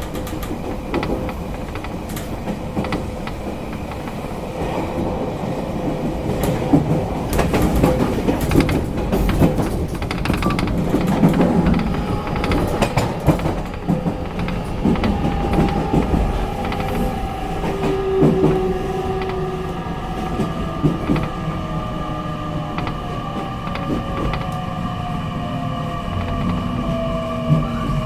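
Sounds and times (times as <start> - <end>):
wheels clicking over rail joints: 0.0 - 5.1, 6.2 - 21.7, 22.6 - 25.1, 25.8 - 28.0
train interior rumble: 0.0 - 28.0.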